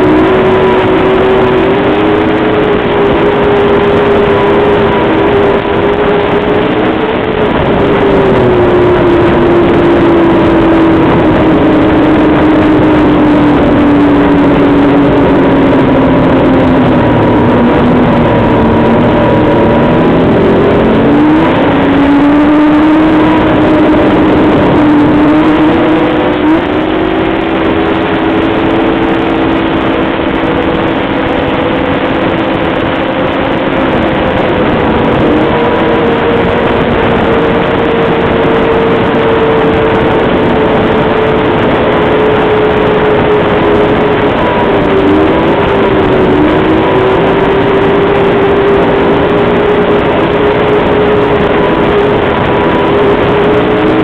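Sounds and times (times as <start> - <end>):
heavy rushing noise: 0.0 - 54.0
snowmobile engine running: 0.0 - 54.0.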